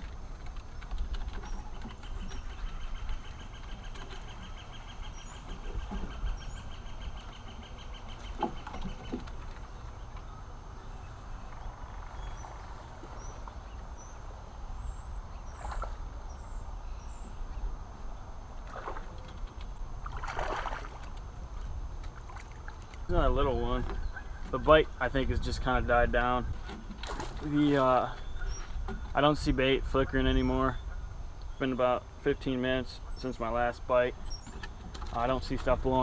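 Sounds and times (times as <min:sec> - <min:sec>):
wind rumbling on microphone: 0:00.0 - 0:31.6.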